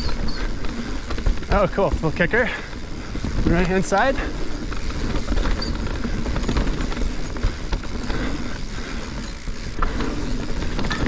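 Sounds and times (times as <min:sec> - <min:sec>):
bike knocking and rattling: 0:00.0 - 0:11.0
bike tyres rumbling on dirt: 0:00.0 - 0:11.0.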